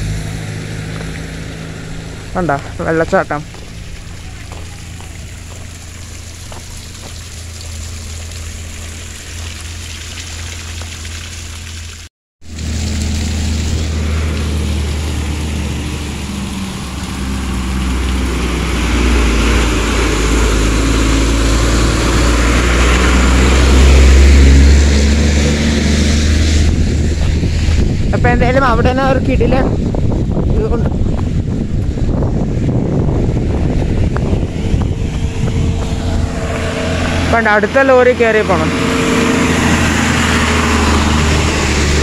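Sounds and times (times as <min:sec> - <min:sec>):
car engine humming: 0:00.0 - 0:11.8, 0:12.5 - 0:42.0
road noise: 0:00.0 - 0:42.0.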